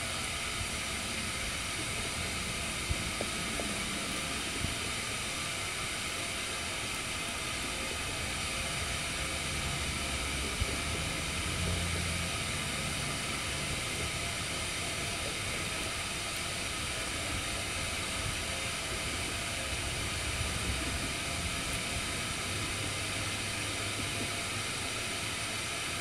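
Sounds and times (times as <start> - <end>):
gas stove burner hissing: 0.0 - 26.0.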